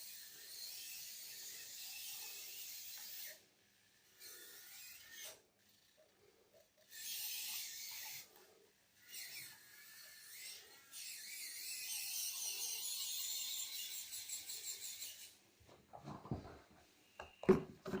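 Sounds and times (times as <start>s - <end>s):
small gear motors whirring: 0.0s - 15.4s.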